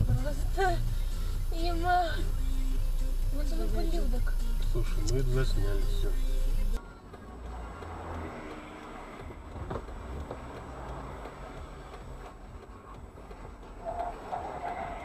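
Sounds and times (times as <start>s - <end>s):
car rumbling in motion: 0.0s - 15.0s.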